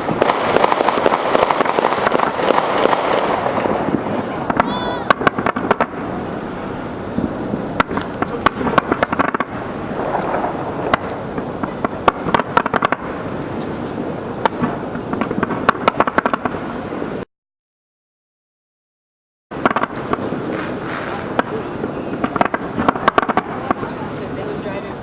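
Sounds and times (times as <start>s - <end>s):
fireworks bangs and cracks: 0.0s - 17.2s, 19.5s - 25.0s.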